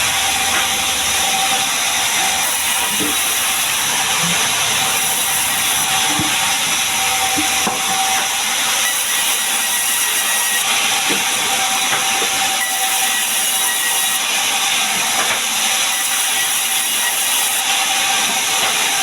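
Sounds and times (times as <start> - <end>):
sawmill saw running: 0.0 - 19.0.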